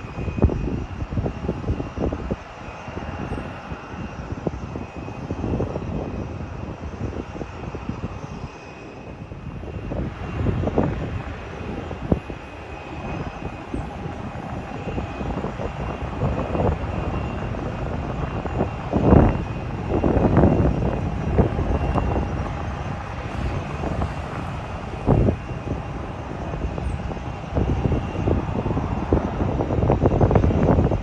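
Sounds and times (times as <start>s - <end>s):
jet engines whining: 0.0s - 31.0s
wind buffeting microphone: 0.0s - 31.0s.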